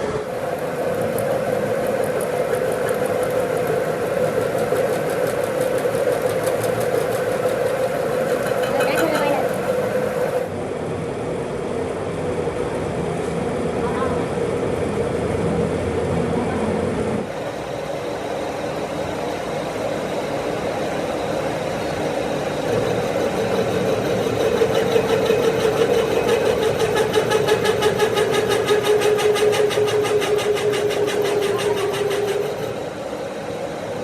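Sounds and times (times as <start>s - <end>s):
motor humming: 0.0s - 10.5s, 17.3s - 34.0s.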